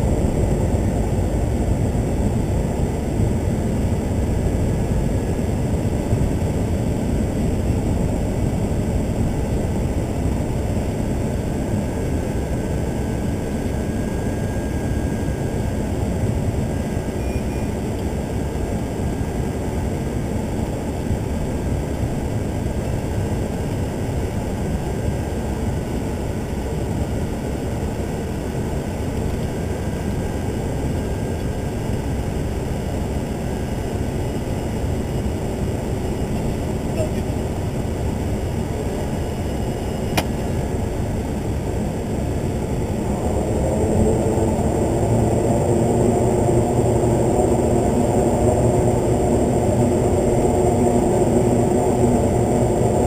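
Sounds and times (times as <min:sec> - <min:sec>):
turboprop engine drone: 0:00.0 - 0:53.0.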